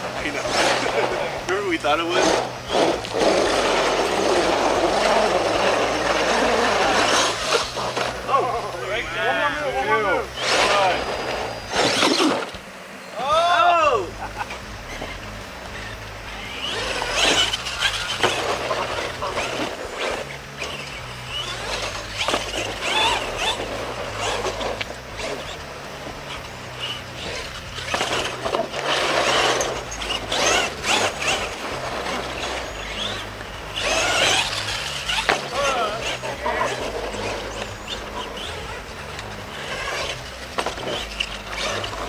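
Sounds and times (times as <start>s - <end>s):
toy truck motor whining: 0.0s - 12.6s, 13.2s - 42.0s
tyres scrabbling over dirt: 0.0s - 12.7s, 14.4s - 42.0s.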